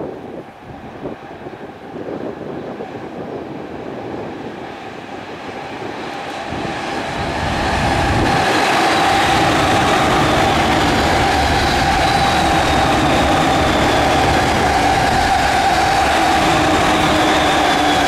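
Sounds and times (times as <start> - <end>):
electric train passing: 0.0 - 18.0
steady train whine: 0.0 - 18.0.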